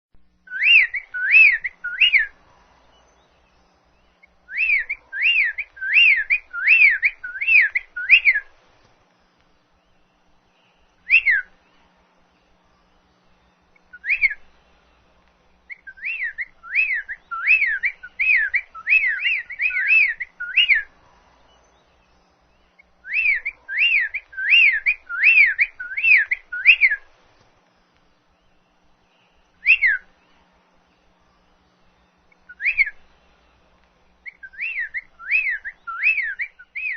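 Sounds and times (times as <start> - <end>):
bird singing whistled notes: 0.3 - 8.5, 9.2 - 27.1, 27.7 - 33.5, 34.1 - 36.9.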